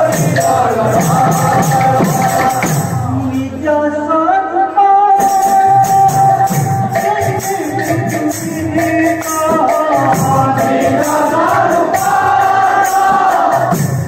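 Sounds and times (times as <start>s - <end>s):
jingling hand cymbals: 0.0s - 3.1s, 5.2s - 14.0s
barrel drum beat: 0.0s - 3.2s, 5.3s - 14.0s.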